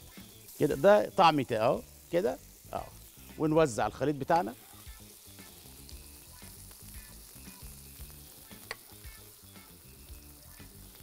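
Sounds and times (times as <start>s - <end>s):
faint sizzling in pan: 0.0s - 11.0s.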